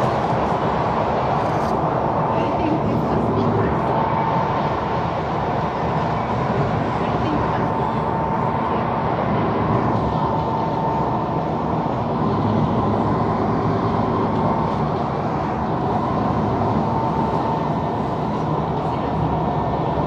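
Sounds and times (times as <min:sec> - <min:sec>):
faint high whine: 0:00.0 - 0:20.0
metro train rumble and hiss: 0:00.0 - 0:20.0.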